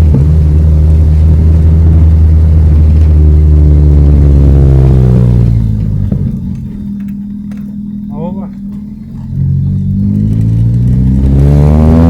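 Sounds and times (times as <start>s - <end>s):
car exhaust drone accelerating: 0.0s - 12.0s.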